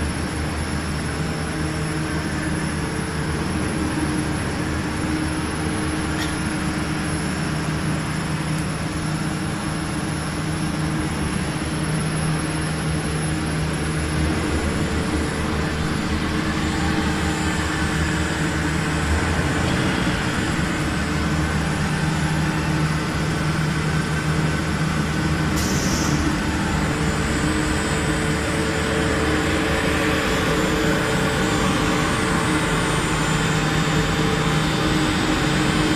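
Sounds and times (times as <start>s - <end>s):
film blowing machine droning: 0.0s - 35.9s.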